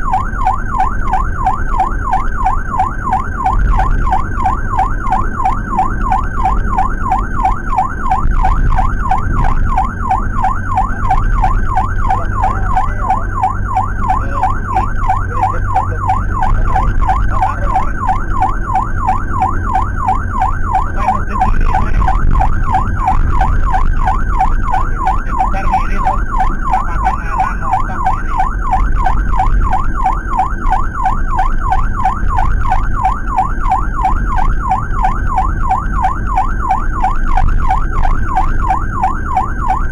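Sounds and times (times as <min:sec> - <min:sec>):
emergency siren yelping: 0:00.0 - 0:39.9
engine and road rumble: 0:00.0 - 0:39.9.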